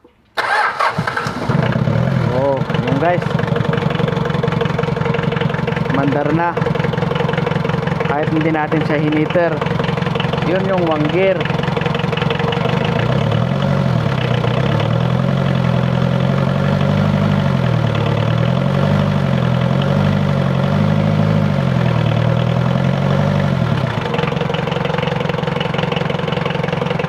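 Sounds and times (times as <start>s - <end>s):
diesel engine idling: 0.4s - 27.0s.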